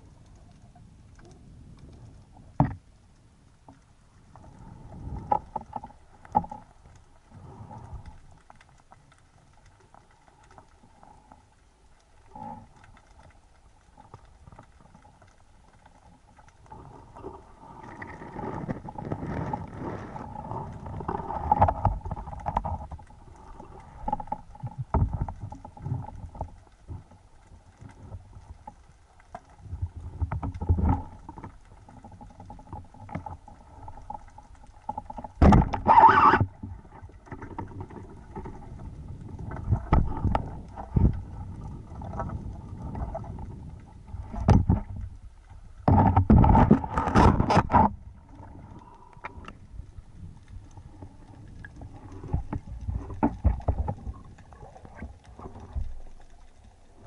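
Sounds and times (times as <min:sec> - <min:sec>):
faint steady hum: 0:00.0 - 0:57.0
underwater water rush: 0:00.0 - 0:57.0.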